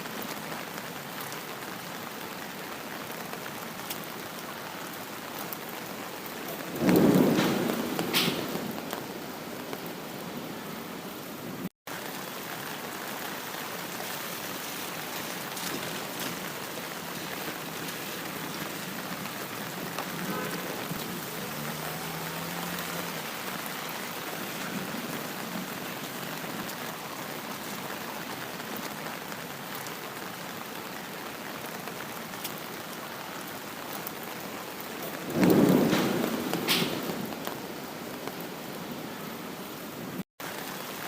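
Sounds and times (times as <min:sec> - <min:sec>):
rain pattering: 0:00.0 - 0:41.0.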